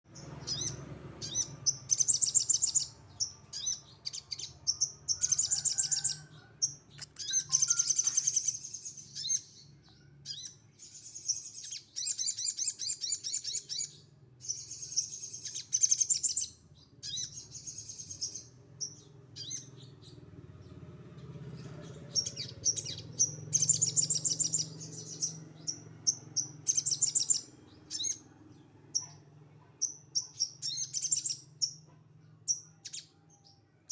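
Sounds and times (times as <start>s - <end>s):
songbird trilling: 0.1s - 20.2s, 21.8s - 28.3s, 28.9s - 31.9s.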